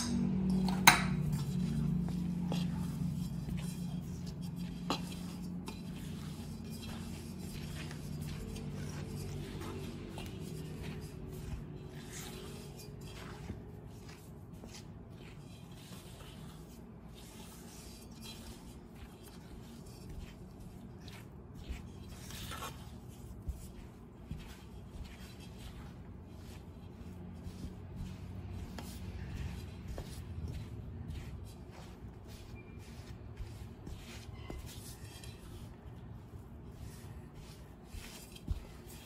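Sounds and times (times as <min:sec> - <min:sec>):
spatula scraping dough in bowl: 0:00.0 - 0:39.0.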